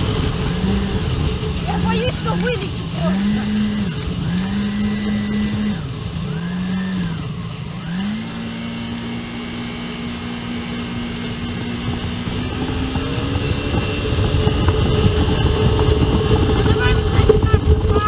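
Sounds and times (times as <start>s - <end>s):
jet ski engine revving: 0.0s - 18.0s
rushing wind: 0.0s - 18.0s
water noise: 0.0s - 18.0s.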